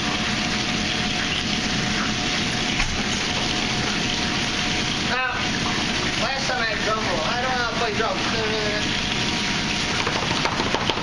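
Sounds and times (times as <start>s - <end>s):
gas range and ventilation rushing: 0.0s - 11.0s.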